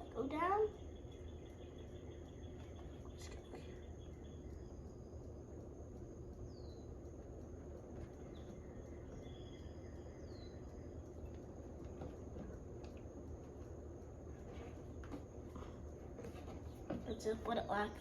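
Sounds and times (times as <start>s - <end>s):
bird chirping: 0.0s - 18.0s
high insect drone: 0.0s - 18.0s.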